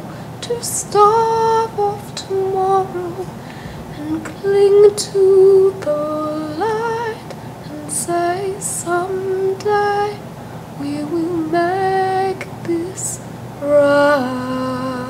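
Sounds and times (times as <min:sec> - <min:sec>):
woman singing: 0:00.0 - 0:10.2, 0:10.8 - 0:15.0.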